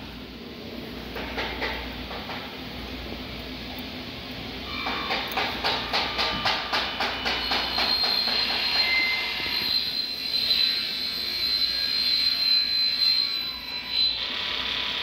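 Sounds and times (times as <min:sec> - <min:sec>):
factory machinery whining: 0:00.0 - 0:15.0.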